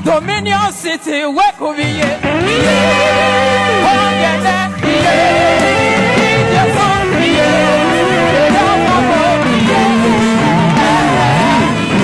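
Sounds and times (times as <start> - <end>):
band playing worship music: 0.0 - 12.0
voices singing: 0.0 - 12.0.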